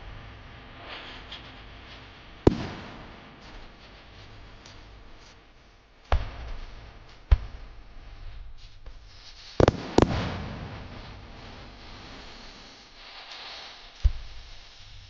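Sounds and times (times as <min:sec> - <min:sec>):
firework shells bursting with echo: 0:00.8 - 0:05.4, 0:06.0 - 0:15.0.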